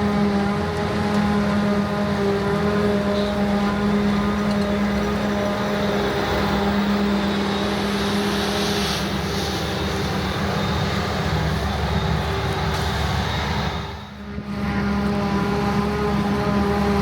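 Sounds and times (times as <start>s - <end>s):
diesel engine low hum: 0.0s - 17.0s.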